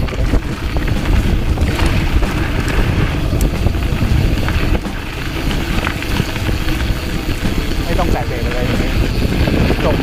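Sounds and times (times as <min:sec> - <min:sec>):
bike rattling: 0:00.0 - 0:10.0
bike rumbling on dirt trail: 0:00.0 - 0:10.0
wind buffeting microphone: 0:00.0 - 0:10.0.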